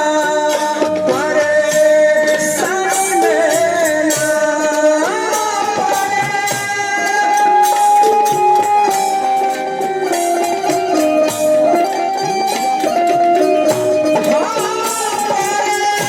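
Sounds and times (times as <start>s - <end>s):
folk melody instrument: 0.0s - 16.0s
steady percussion: 0.0s - 16.0s.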